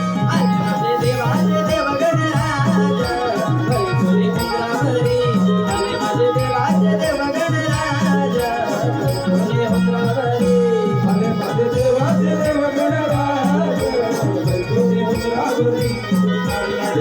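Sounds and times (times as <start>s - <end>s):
folk drum rhythm: 0.0s - 17.0s
rattling percussion: 0.0s - 17.0s
wavering melody line: 0.0s - 17.0s.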